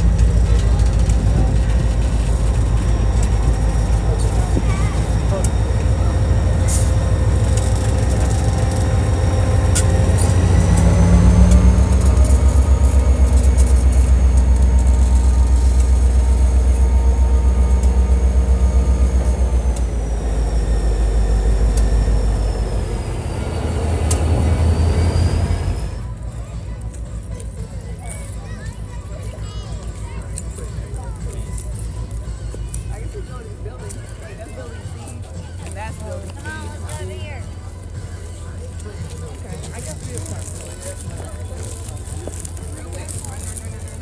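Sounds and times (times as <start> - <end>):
high whine: 0.0 - 35.4
diesel locomotive engine throbbing: 0.0 - 44.0
train wheels rolling on rails: 0.0 - 44.0.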